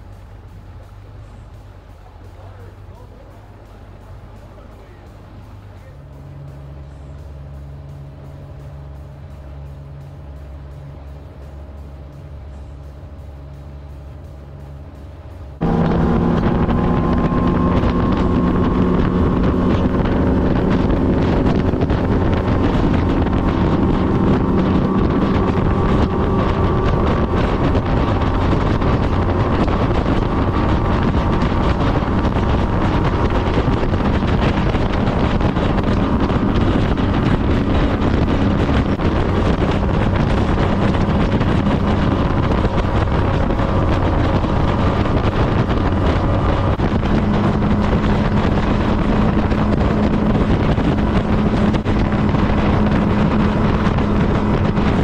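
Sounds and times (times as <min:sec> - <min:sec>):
outboard motor running: 0:00.0 - 0:55.0
water rushing past hull: 0:00.0 - 0:55.0
wind buffeting microphone: 0:00.0 - 0:55.0.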